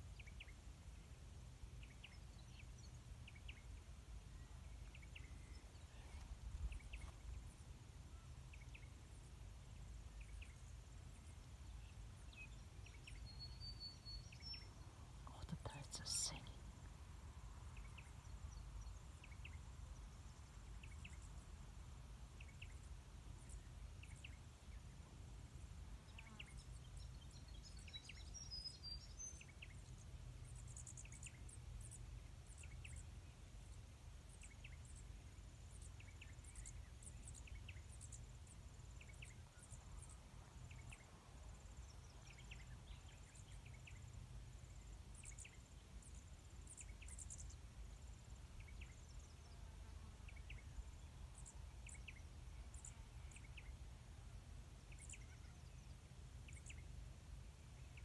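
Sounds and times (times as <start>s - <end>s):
small birds chirping: 1.7s - 21.6s, 26.0s - 53.8s, 54.9s - 57.0s.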